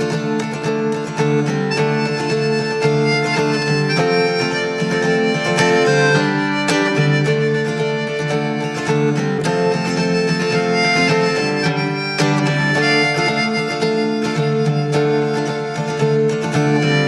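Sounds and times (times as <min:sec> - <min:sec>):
acoustic guitar: 0:00.0 - 0:17.0
harmonica: 0:00.0 - 0:17.0.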